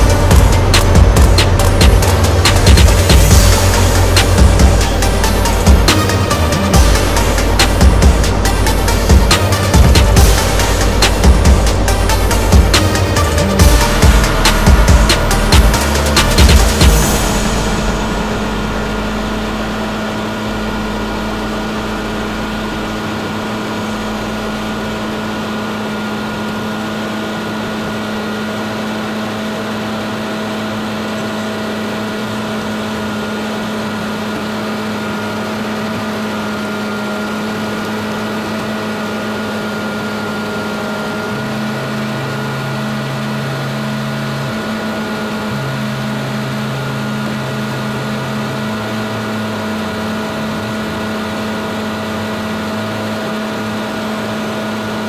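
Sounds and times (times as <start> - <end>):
paving machine engine droning: 0.0 - 55.0.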